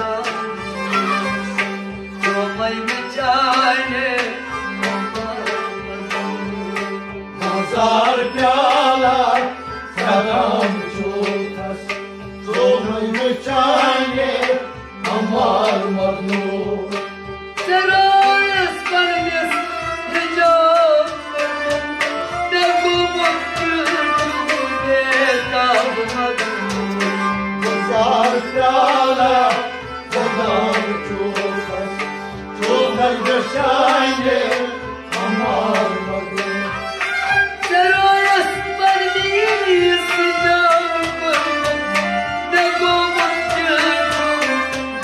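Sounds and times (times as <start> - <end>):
man singing: 0.0 - 1.2, 2.2 - 45.0
hand drum rhythm: 0.0 - 45.0
harmonium chords: 0.0 - 45.0
plucked strings: 0.0 - 45.0.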